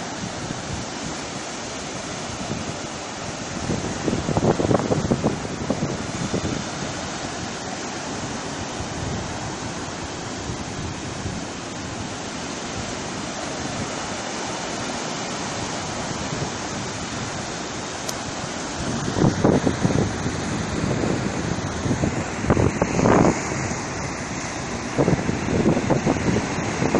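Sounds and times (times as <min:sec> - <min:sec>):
sea surf on the shore: 0:00.0 - 0:26.9
wind on the microphone: 0:00.0 - 0:26.9.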